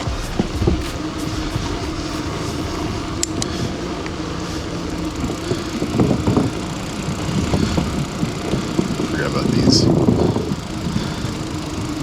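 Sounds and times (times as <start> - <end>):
bicycle tyre noise on wet road: 0.0 - 12.0
continuous low hum: 0.0 - 12.0.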